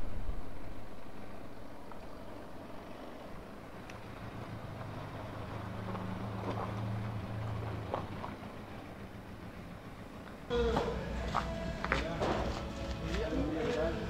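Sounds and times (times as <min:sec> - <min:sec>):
motorcycle engine running low: 0:00.0 - 0:14.0.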